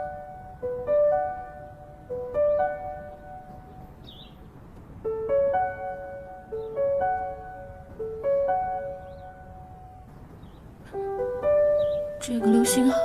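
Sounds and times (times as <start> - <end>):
piano repeating rising figure: 0.0 - 13.0.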